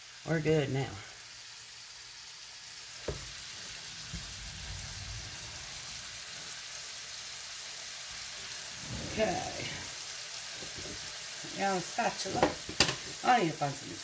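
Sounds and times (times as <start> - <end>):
meat sizzling in a frying pan: 0.0 - 14.0.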